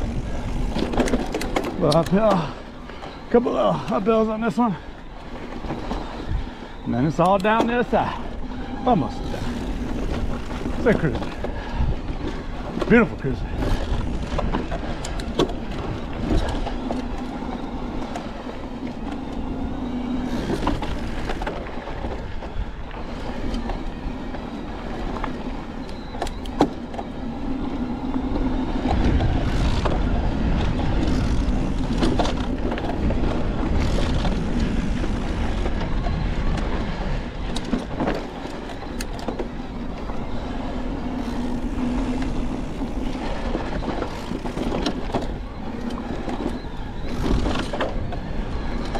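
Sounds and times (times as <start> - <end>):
tyres rumbling on dirt: 0.0 - 48.9.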